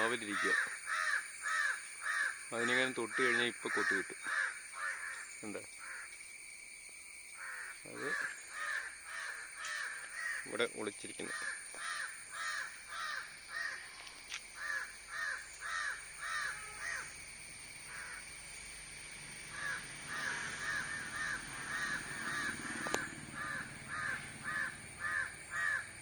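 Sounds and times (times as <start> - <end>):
crows cawing: 0.0 - 6.2, 7.4 - 10.6, 11.2 - 18.7, 19.5 - 26.0.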